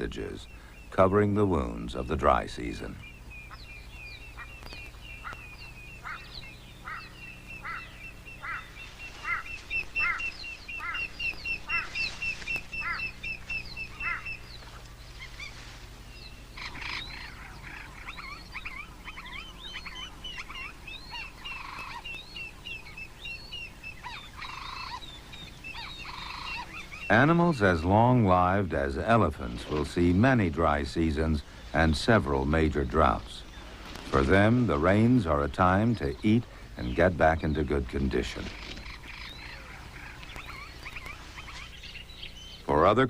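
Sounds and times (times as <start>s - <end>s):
birds calling: 0.0s - 43.0s.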